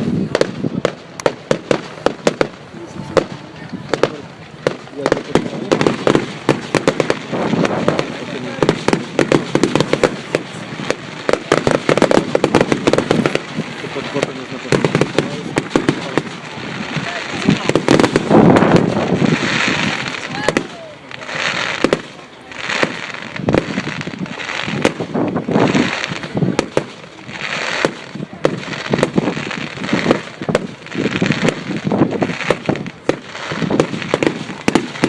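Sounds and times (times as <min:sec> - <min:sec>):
firework crackling: 0:00.0 - 0:35.0
firework shells bursting: 0:00.3 - 0:35.0.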